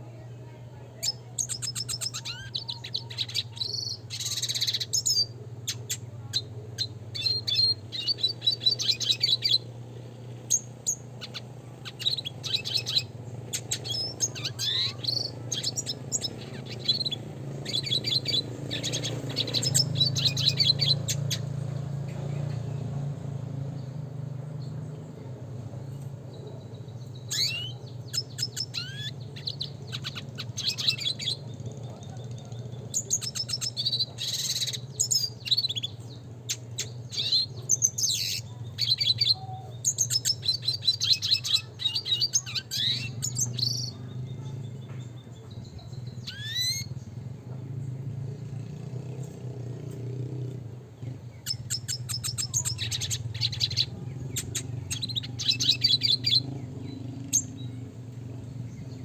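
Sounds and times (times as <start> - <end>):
bird twittering trills: 0.5 - 59.0.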